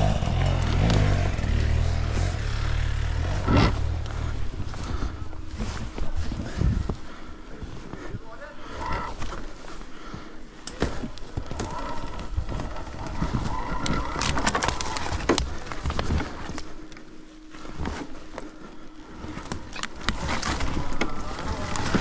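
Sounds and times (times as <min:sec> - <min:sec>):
faint electric motor whine: 0:00.0 - 0:22.0.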